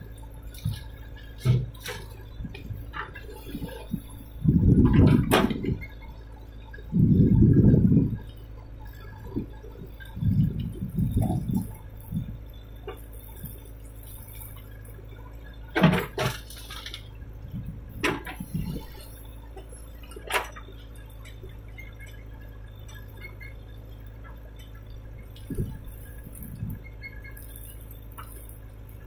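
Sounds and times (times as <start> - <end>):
engine low hum: 0.0 - 29.0
muffled rumbles: 0.0 - 29.0.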